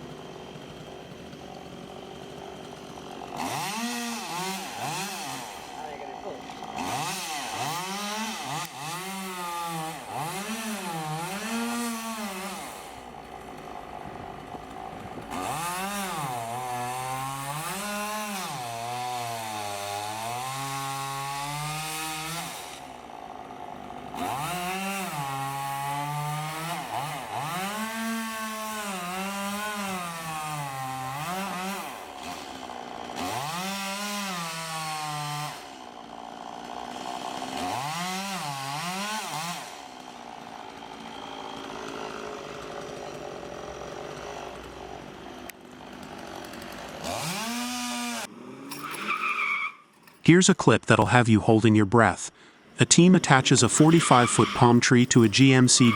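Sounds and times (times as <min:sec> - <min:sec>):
chainsaw revving: 0:00.0 - 0:49.1, 0:52.4 - 0:55.9.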